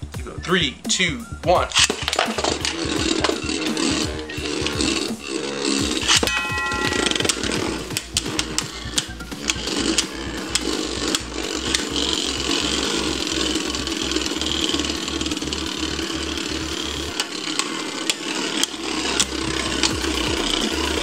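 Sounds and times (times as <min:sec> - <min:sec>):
spinning tops whirring: 0:00.0 - 0:21.0
tops clicking against each other: 0:01.7 - 0:21.0.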